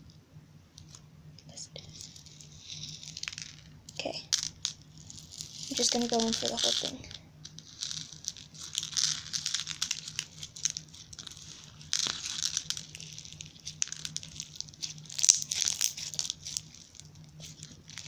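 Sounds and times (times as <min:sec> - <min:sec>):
dry rice crackling in slime: 0:01.8 - 0:18.0.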